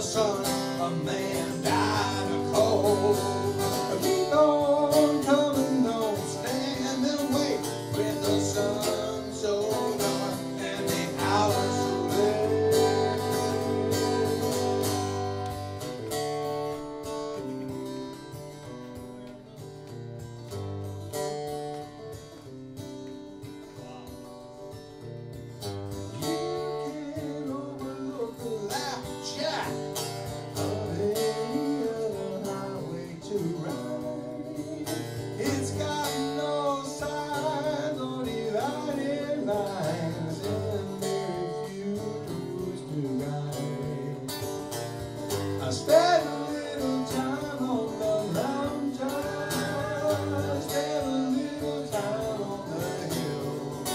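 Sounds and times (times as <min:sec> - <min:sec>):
guitar chords: 0:00.0 - 0:53.9
lead guitar melody: 0:00.0 - 0:53.9.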